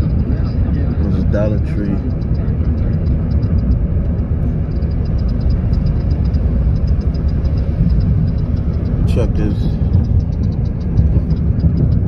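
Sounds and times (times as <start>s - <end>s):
car road and engine rumble: 0.0s - 12.0s
light rapid ticking: 0.0s - 12.0s.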